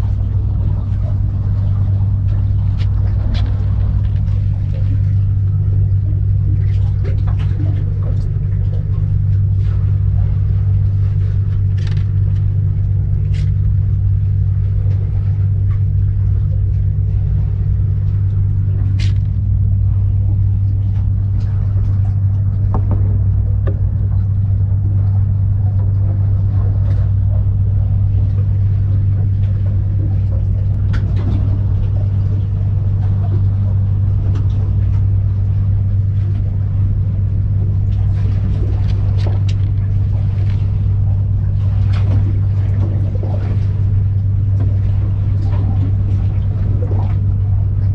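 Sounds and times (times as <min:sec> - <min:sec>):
loud low hum: 0:00.0 - 0:47.9.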